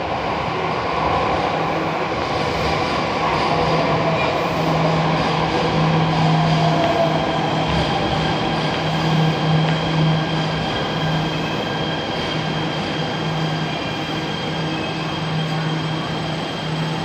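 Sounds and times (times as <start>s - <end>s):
train running on rails: 0.0s - 17.0s.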